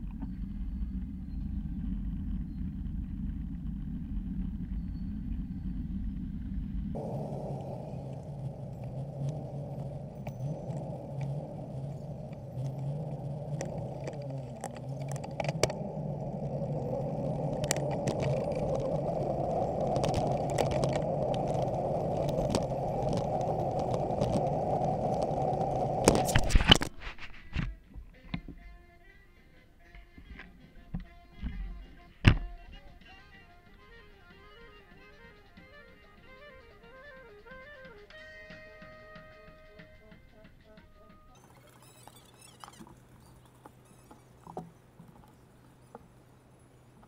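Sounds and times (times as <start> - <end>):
bicycle tyres rumbling on road: 0.0 - 29.0, 37.3 - 47.0.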